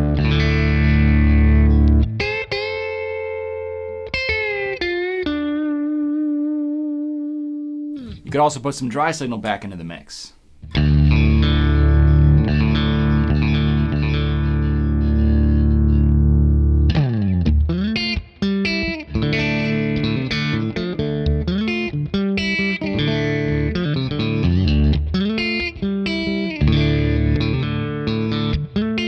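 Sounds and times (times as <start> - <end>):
electric guitar chords and notes: 0.0 - 8.3, 10.5 - 29.0.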